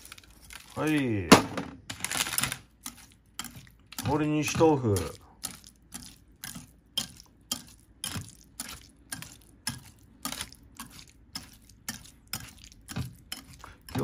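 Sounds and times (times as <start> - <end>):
whisk clicking against bowl: 2.3 - 14.0
wet squish of tofu: 2.6 - 14.0.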